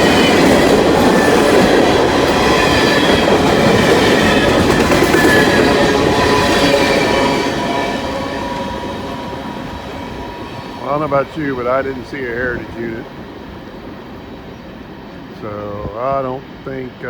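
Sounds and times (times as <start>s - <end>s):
freight train cars rolling past: 0.0s - 17.0s
high wheel squeal: 1.1s - 14.8s.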